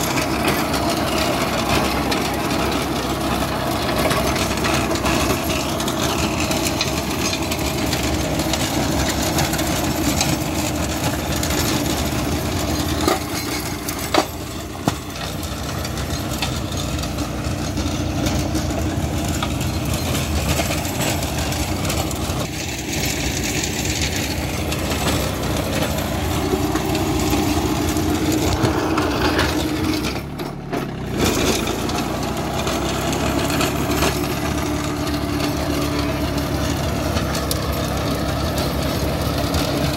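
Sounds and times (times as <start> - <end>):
diesel tractor engine under load: 0.0 - 39.9
rotavator churning soil: 0.0 - 39.9.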